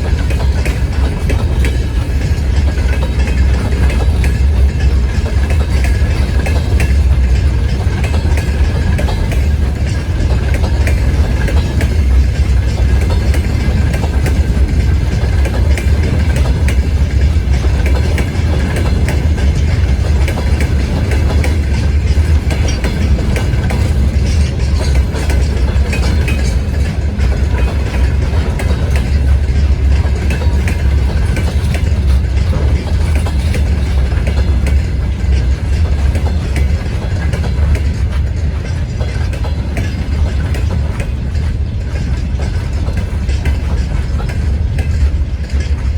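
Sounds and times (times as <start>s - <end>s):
freight train rumbling: 0.0s - 45.9s
wheels clicking over rails: 0.0s - 45.9s.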